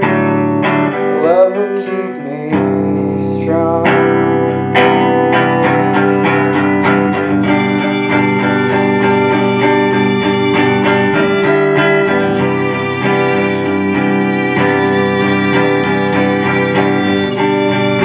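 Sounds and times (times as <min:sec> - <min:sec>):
picked guitar notes: 0:00.0 - 0:18.0.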